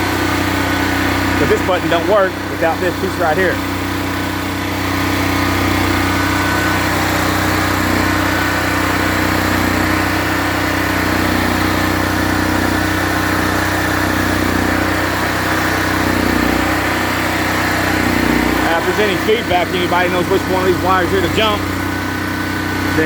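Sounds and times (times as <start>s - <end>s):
portable generator engine running: 0.0s - 23.0s.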